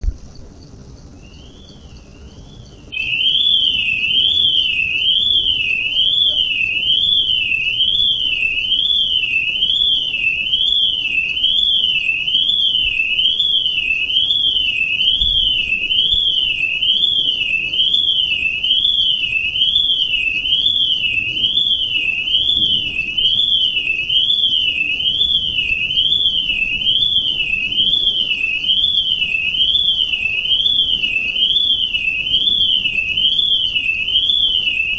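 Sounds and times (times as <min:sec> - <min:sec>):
electronic alarm warbling tone: 0:01.1 - 0:34.9.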